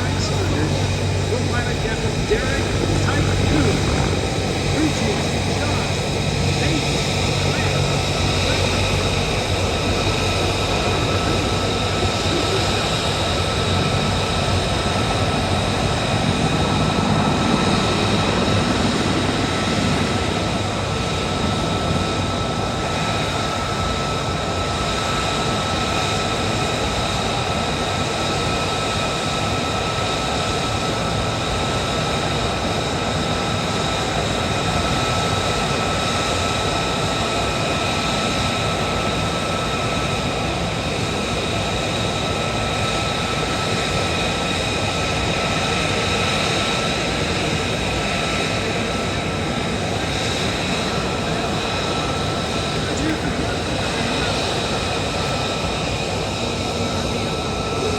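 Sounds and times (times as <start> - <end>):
high steady engine whine: 0.0 - 57.9
military aircraft engines: 0.0 - 57.9.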